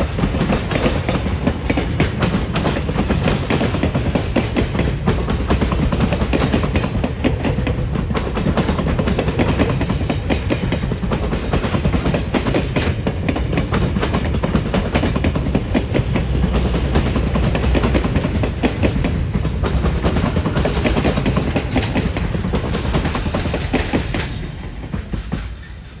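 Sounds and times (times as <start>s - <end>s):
train wheels clacking over rail joints: 0.0s - 26.0s.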